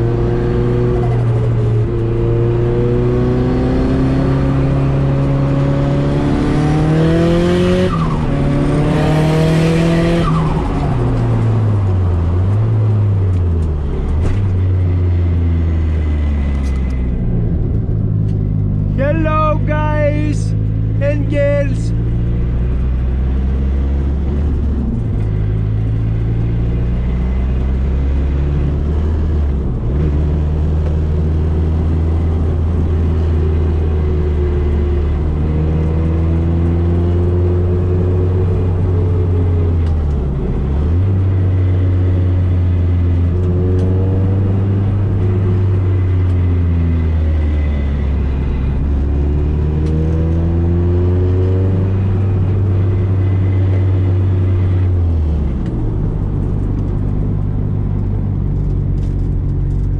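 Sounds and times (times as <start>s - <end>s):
car engine revving: 0.0s - 19.1s, 21.8s - 59.9s.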